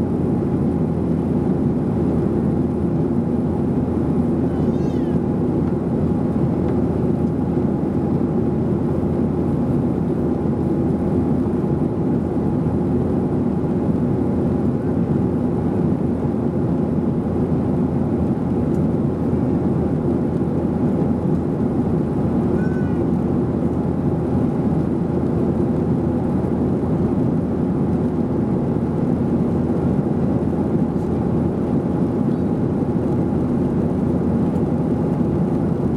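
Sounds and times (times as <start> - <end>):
airplane cabin drone: 0.0 - 35.9.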